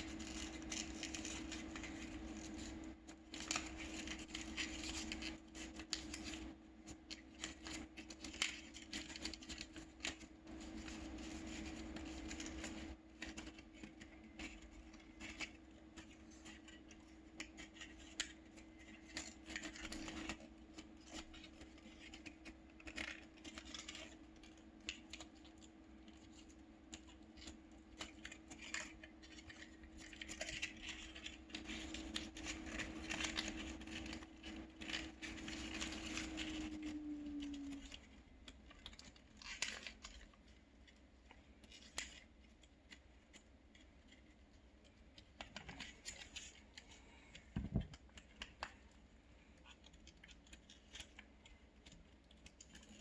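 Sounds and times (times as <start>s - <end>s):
paper crinkling and rustling: 0.0s - 53.0s.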